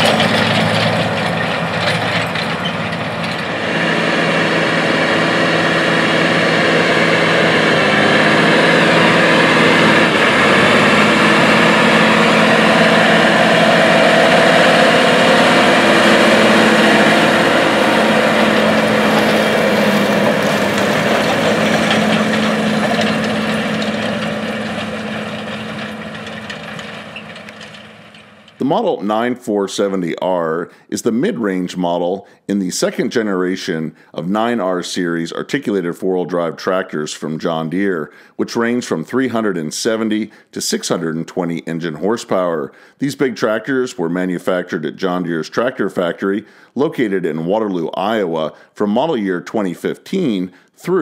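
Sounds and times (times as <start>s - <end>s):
tractor diesel engine under load: 0.0s - 30.9s, 33.6s - 50.9s.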